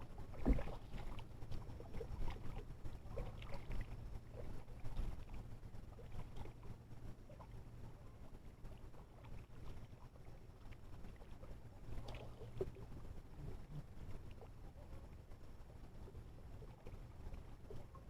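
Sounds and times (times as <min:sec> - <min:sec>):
low steady boat rumble: 0:00.0 - 0:18.0.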